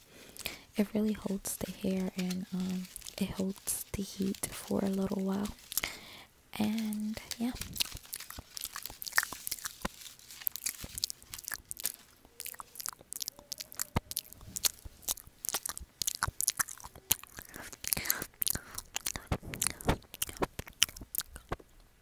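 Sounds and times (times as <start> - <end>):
hair rustling: 0.0 - 21.6
aluminium foil crinkling: 0.2 - 21.6.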